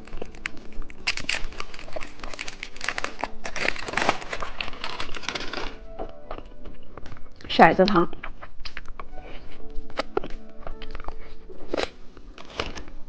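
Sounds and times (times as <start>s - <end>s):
plastic packaging crinkling: 0.0s - 7.4s, 8.2s - 13.0s.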